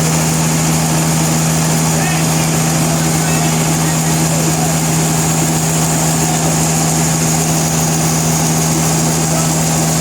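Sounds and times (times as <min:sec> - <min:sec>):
high machine whine: 0:00.0 - 0:10.0
sawmill machinery humming: 0:00.0 - 0:10.0.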